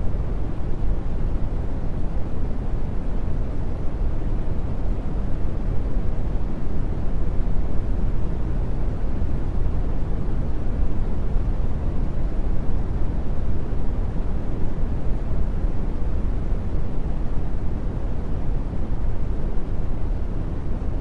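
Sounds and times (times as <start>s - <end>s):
brown noise hiss: 0.0s - 21.0s.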